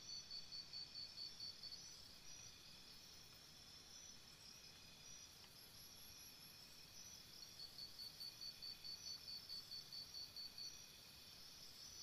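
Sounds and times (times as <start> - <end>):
insects trilling: 0.1 - 12.0.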